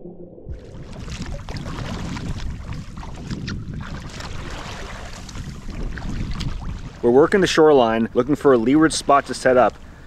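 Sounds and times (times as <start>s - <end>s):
wind buffeting microphone: 0.5s - 10.0s
water rushing along kayak hull: 0.6s - 10.0s.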